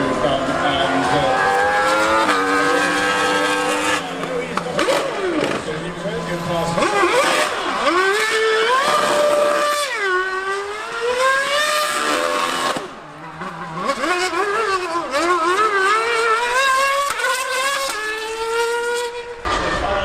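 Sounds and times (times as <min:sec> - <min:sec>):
racing engine revving: 0:00.0 - 0:20.0.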